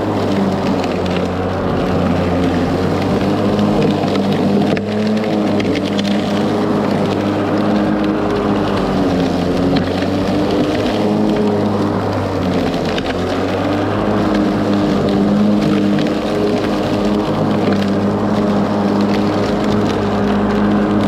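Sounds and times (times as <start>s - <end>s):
electric lawn mower running: 0.0s - 21.0s.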